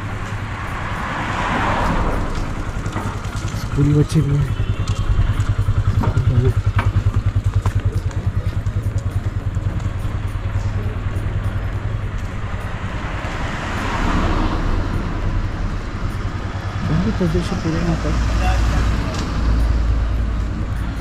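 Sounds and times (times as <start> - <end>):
vehicle engine throbbing: 0.0 - 21.0
vehicle passing: 0.0 - 21.0.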